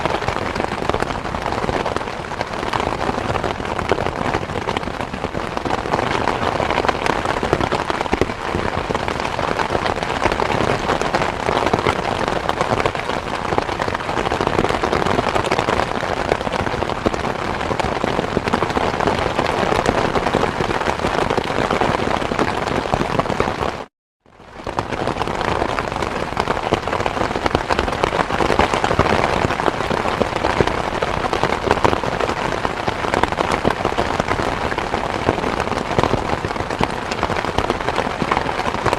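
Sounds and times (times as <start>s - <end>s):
dense rain patter: 0.0s - 38.9s.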